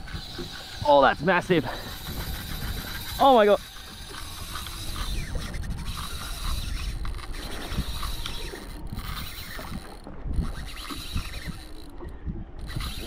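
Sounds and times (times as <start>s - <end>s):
fishing reel drag ticking: 0.0s - 13.0s
wind noise on microphone: 0.0s - 13.0s.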